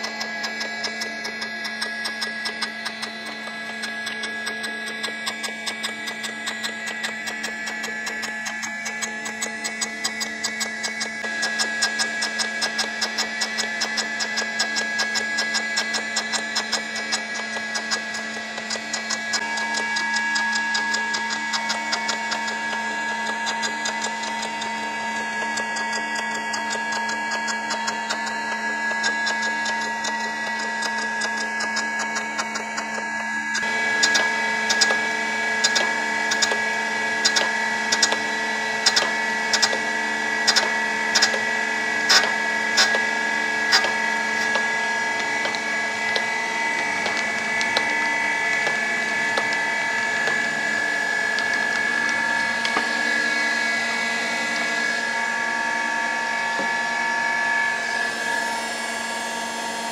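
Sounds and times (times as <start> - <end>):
surface grinder grinding metal: 0.0 - 59.9.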